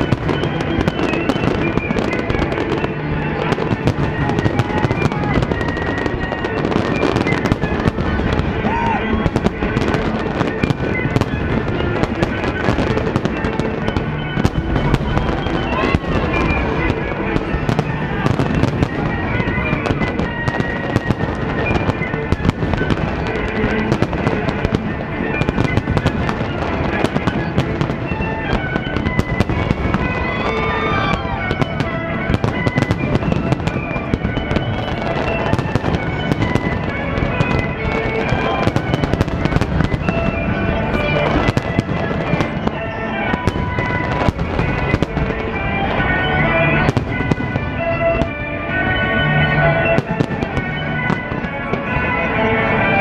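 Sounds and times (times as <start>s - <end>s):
fireworks shells bursting: 0.0s - 53.0s
music playing: 0.0s - 53.0s.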